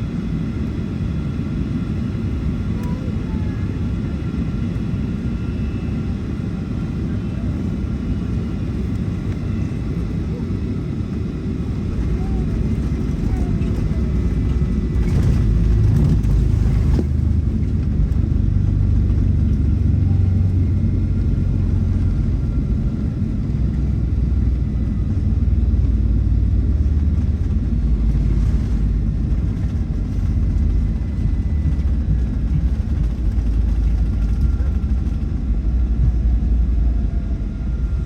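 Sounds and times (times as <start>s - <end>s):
airliner cabin low rumble: 0.0s - 38.0s.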